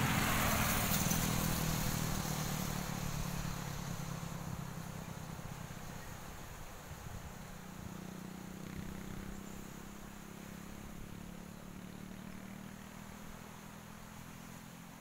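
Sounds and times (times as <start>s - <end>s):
distant vehicle engine hum: 0.0s - 15.0s.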